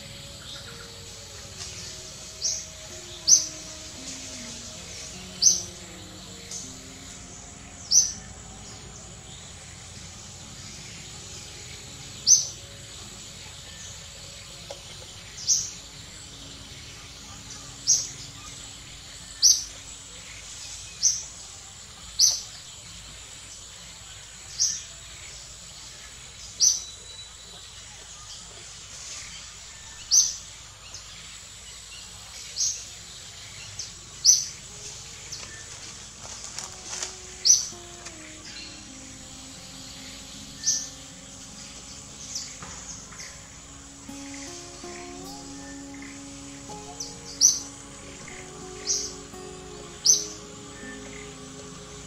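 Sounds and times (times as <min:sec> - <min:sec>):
bird chirping: 0:00.0 - 0:52.0
faint background hiss: 0:00.0 - 0:52.0
high-pitched forest hum: 0:00.0 - 0:52.0.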